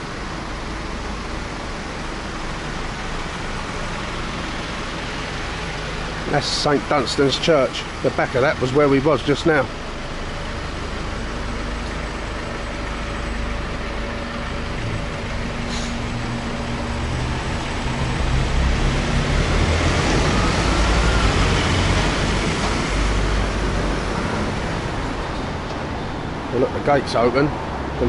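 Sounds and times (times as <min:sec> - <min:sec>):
buses passing close by: 0:00.0 - 0:28.0
city road traffic: 0:00.0 - 0:28.0.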